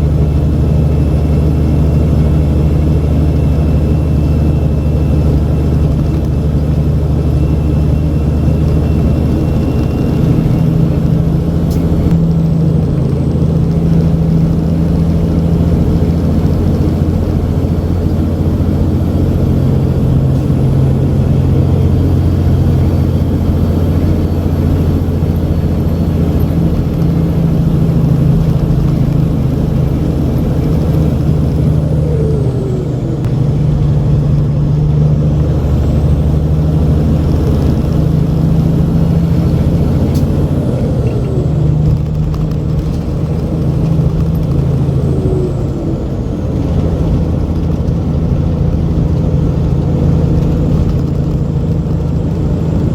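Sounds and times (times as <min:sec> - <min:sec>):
truck diesel engine droning: 0:00.0 - 0:52.9.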